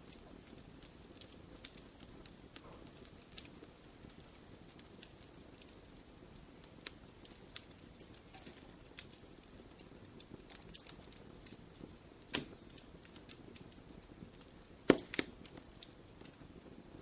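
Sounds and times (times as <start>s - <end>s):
fire hissing: 0.0s - 17.0s
wood fire crackling and popping: 0.0s - 17.0s.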